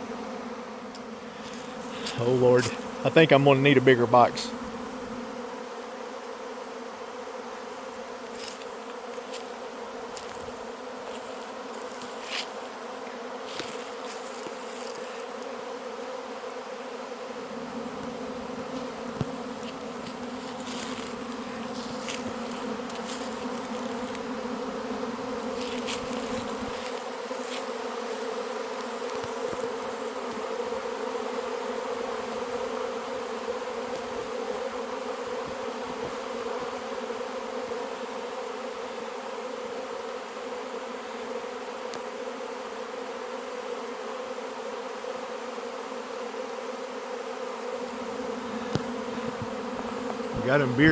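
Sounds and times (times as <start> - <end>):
bee swarm buzzing: 0.0 - 50.9.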